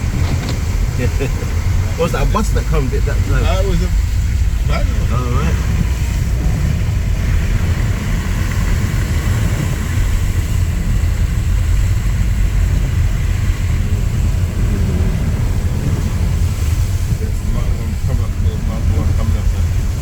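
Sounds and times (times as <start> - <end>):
car engine and tyre rumble: 0.0 - 20.0
rain and spray hiss: 0.0 - 20.0.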